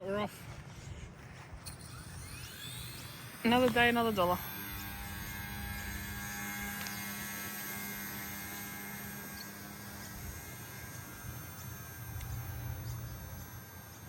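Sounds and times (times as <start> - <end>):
toy helicopter motor whine: 0.1 - 14.0.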